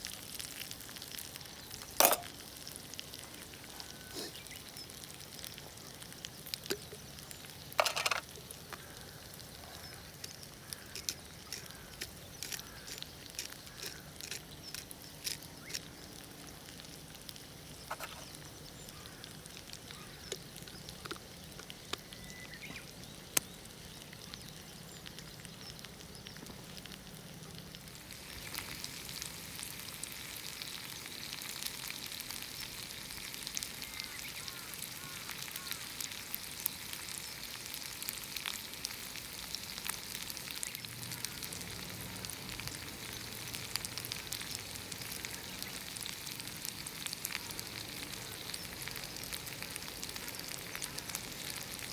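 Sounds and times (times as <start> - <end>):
potatoes sizzling in a pan: 0.0 - 51.9.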